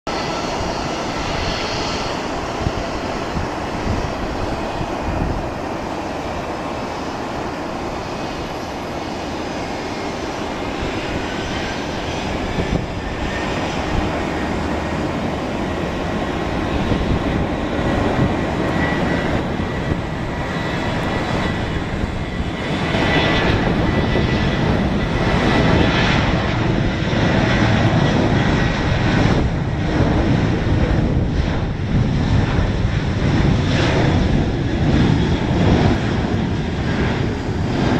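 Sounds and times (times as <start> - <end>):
jet engines roaring: 0.1 - 37.9.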